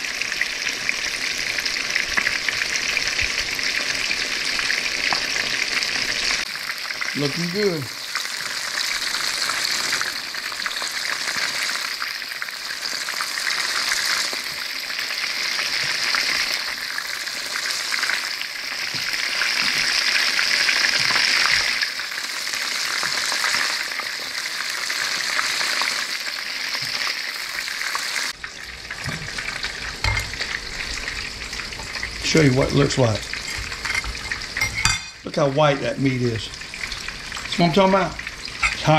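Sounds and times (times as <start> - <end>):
fish frying in hot oil: 0.0 - 38.9.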